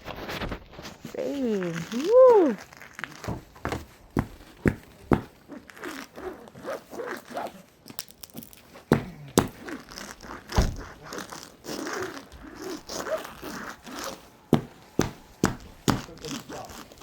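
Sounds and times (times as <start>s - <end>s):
rasping scuffs: 0.0s - 7.7s, 8.4s - 17.0s
footsteps crunching on ice: 0.7s - 17.0s.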